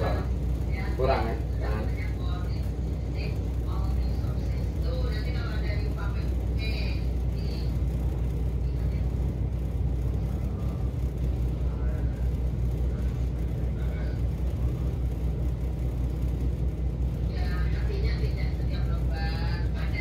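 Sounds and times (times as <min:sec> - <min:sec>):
faint voices: 0:00.0 - 0:20.0
ship diesel engines droning: 0:00.0 - 0:20.0.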